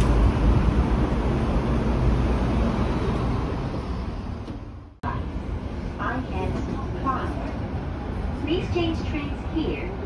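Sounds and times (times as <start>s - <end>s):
street noise with deep rumble: 0.0s - 10.0s.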